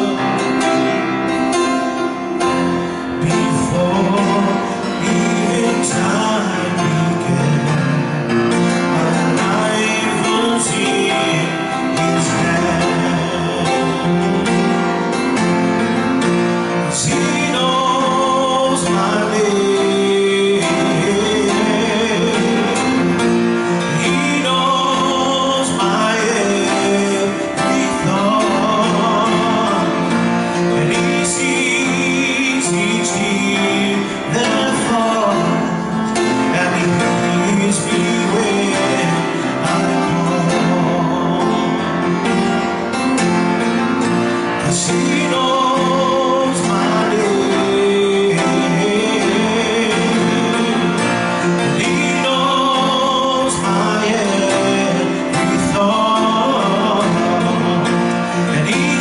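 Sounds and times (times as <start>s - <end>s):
instrumental accompaniment: 0.0s - 59.0s
man singing slow song: 0.0s - 59.0s.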